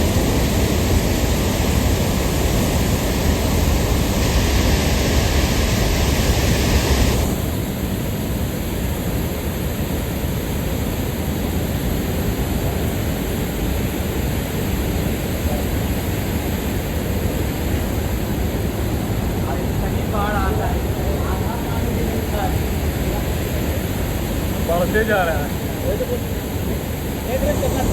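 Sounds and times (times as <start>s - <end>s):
waterfall roaring: 0.0s - 27.9s.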